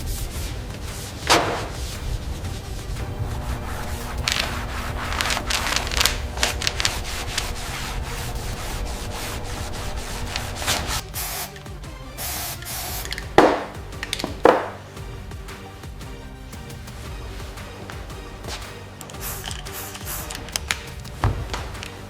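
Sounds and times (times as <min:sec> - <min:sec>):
background music: 0:00.0 - 0:22.0
rough rubbing or sanding: 0:00.0 - 0:22.0
sharp hits: 0:00.0 - 0:22.0.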